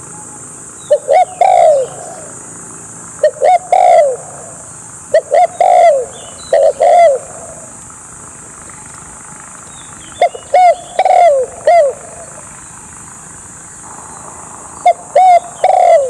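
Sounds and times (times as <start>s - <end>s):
dove cooing: 0.8s - 2.6s, 3.2s - 16.0s.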